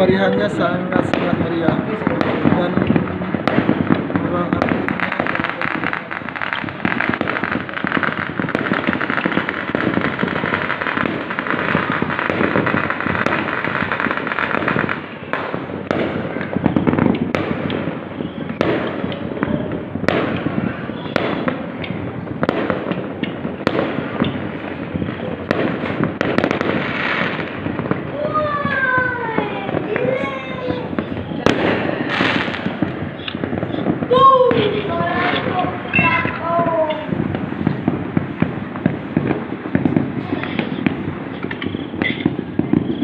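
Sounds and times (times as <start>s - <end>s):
firecrackers crackling: 0.0s - 43.0s
fireworks sharp bangs: 0.0s - 43.0s.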